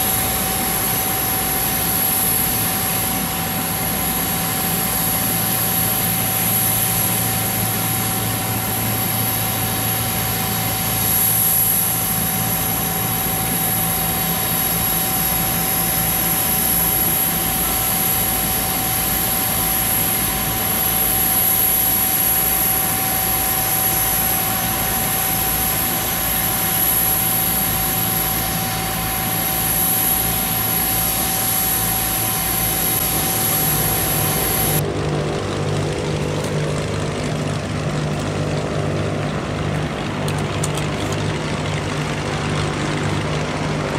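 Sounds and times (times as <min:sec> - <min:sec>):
jet turbine whine: 0:00.0 - 0:43.9.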